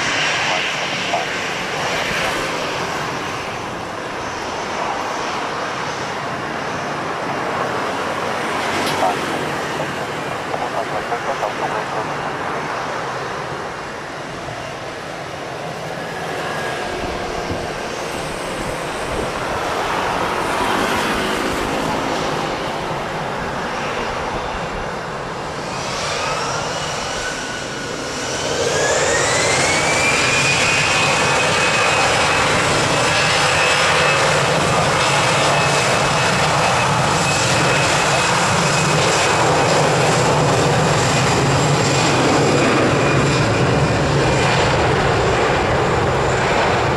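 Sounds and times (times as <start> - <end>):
jet engines spooling up: 0.0 - 46.9.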